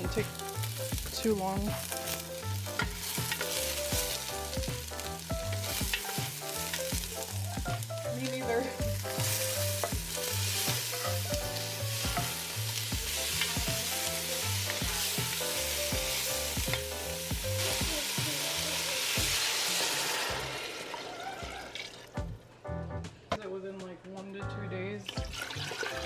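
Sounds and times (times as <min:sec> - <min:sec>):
meat sizzling in a pot: 0:00.0 - 0:22.1
water hissing in hot pot: 0:00.0 - 0:22.1.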